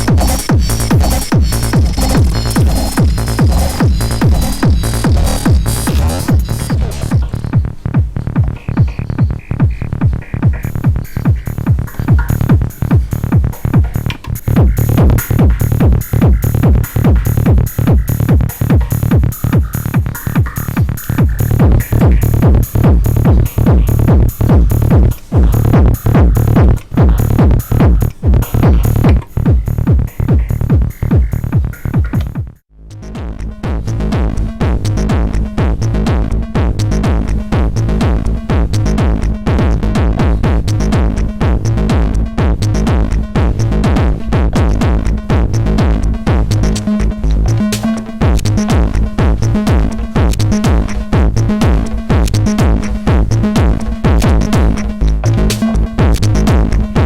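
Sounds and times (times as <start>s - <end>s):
steady bass note: 0.0s - 57.0s
techno drum machine beat: 0.0s - 57.0s.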